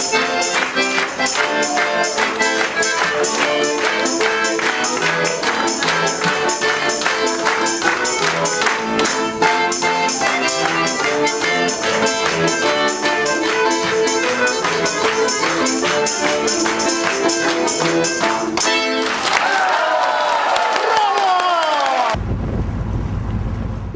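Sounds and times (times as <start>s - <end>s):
lively music with percussive beat: 0.0s - 19.3s.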